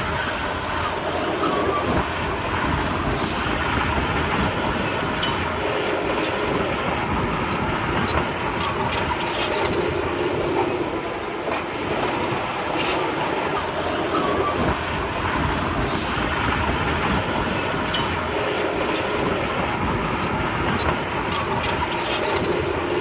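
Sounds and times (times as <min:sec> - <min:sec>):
bulldozer diesel engine running: 0:00.0 - 0:23.0
steel tracks clanking: 0:00.0 - 0:23.0.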